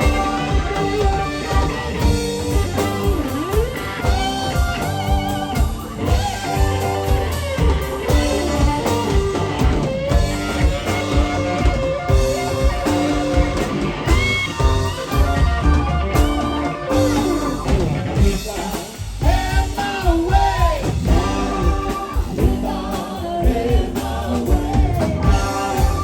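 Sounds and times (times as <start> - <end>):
bass guitar: 0.0 - 26.0
drum kit steady beat: 0.0 - 26.0
electric guitar with bent notes: 0.0 - 26.0.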